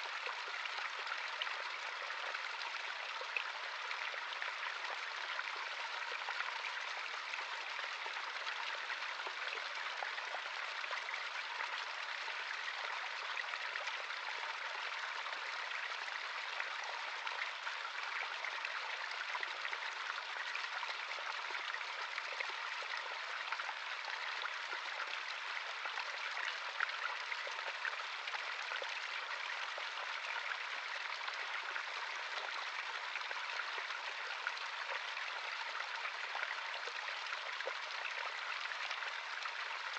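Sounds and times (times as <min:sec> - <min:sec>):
shallow stream running over rocks: 0:00.0 - 0:39.9.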